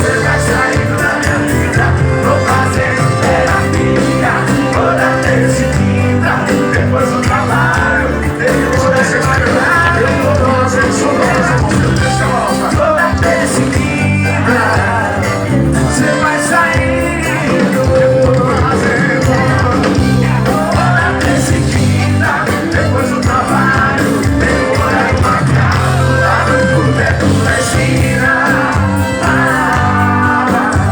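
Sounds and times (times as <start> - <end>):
rock song with singing: 0.0 - 30.9.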